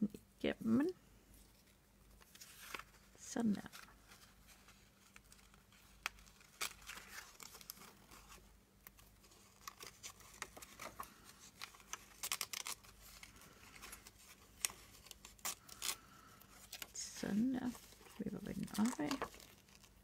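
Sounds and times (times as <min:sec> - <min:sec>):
paper rustling and crinkling: 0:01.4 - 0:20.0.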